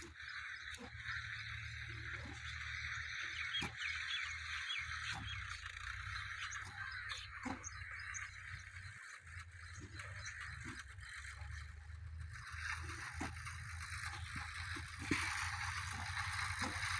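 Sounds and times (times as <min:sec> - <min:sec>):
bird chirps: 0:00.0 - 0:16.9
high animal chorus: 0:00.0 - 0:16.9.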